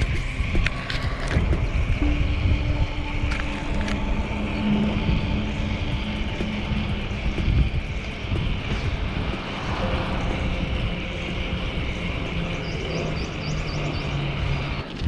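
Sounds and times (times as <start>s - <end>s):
faint hum: 0.0s - 15.0s
vehicle engines rumbling: 0.0s - 15.0s.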